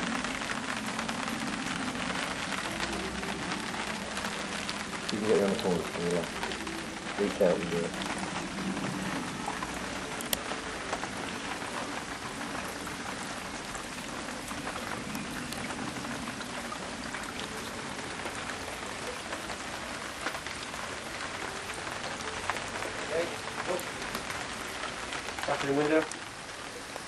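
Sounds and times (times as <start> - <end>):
sharp raindrop ticks: 0.0 - 27.0
steady rain patter: 0.0 - 27.0.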